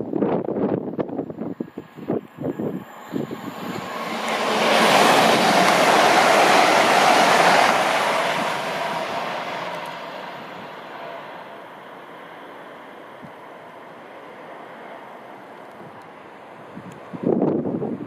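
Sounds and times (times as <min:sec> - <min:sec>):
train passing at speed: 0:00.1 - 0:18.0.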